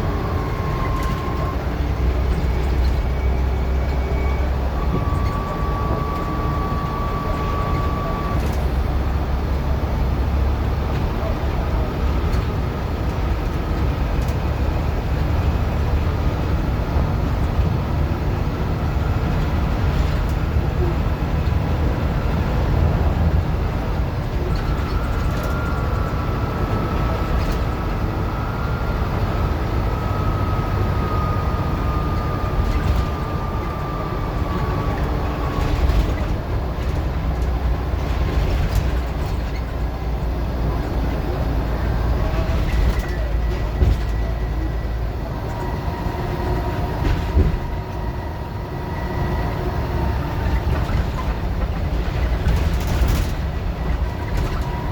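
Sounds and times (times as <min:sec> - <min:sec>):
bus engine rumble: 0:00.0 - 0:54.9
drivetrain whine: 0:00.0 - 0:54.9.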